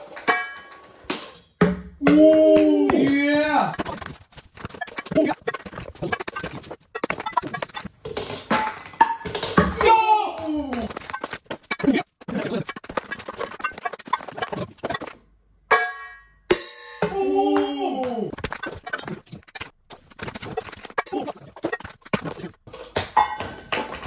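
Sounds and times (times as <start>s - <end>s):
balls clinking off metal pans: 0.0s - 10.0s, 10.6s - 17.7s, 18.3s - 24.0s
balls bouncing on wooden stairs: 0.0s - 15.2s, 17.0s - 24.0s.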